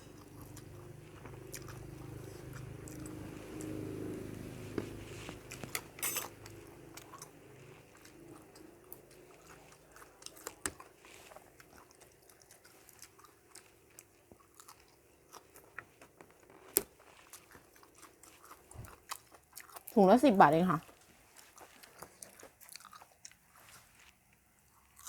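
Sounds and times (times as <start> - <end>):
person chewing food: 0.0 - 20.0, 20.8 - 25.0.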